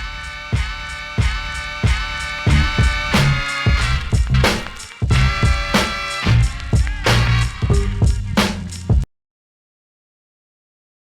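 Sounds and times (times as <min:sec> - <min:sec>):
intro music: 0:00.0 - 0:09.0.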